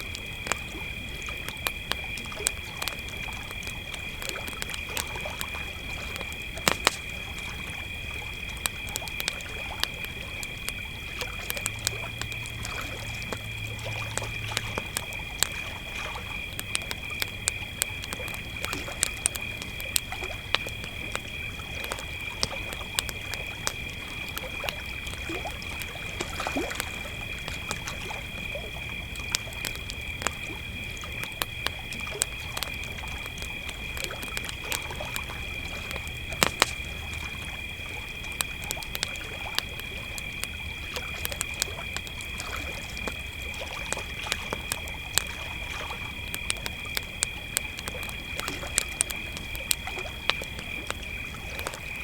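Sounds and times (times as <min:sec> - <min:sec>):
campfire crackling and popping: 0:00.0 - 0:52.0
crickets chirping: 0:00.0 - 0:52.0.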